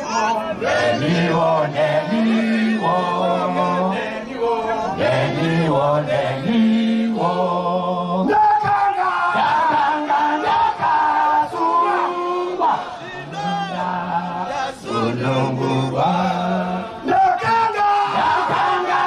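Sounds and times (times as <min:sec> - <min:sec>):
men singing a chant: 0:00.0 - 0:19.0.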